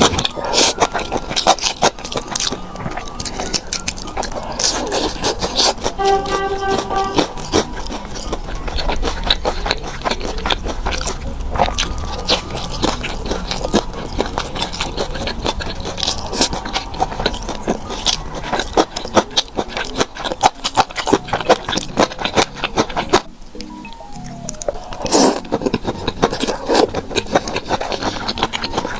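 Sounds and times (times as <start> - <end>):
chewing and biting crunchy food: 0.0 - 28.9.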